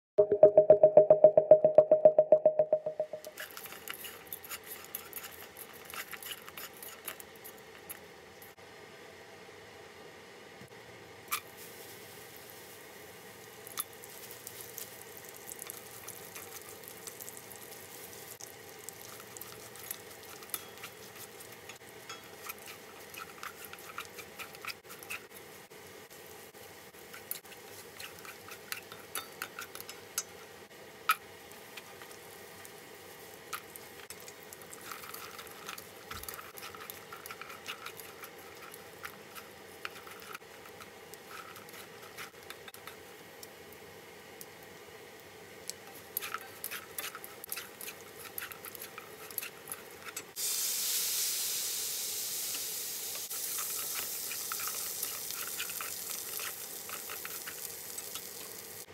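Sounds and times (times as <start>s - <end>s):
faint frying crackle: 10.6s - 58.9s.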